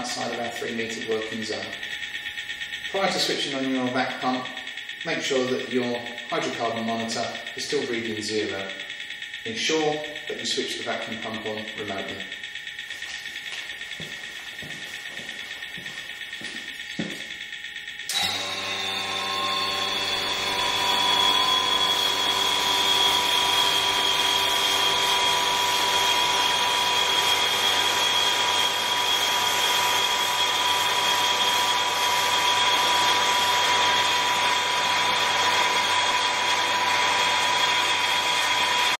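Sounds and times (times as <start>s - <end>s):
vacuum pump whining: 0.0s - 39.0s.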